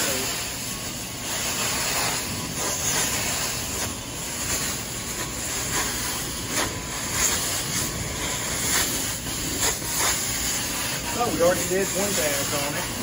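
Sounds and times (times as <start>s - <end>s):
carpet cleaner suction hissing: 0.0s - 13.0s.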